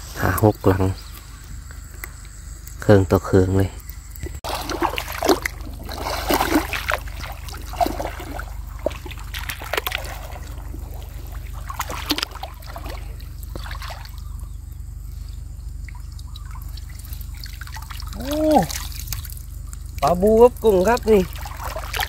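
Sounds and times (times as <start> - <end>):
water trickling: 0.0 - 22.0
water sloshing around legs: 4.1 - 22.0.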